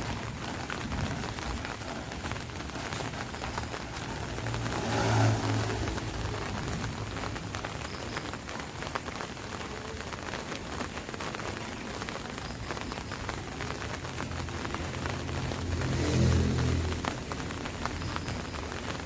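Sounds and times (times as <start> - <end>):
rain drumming on an umbrella: 0.0 - 19.0.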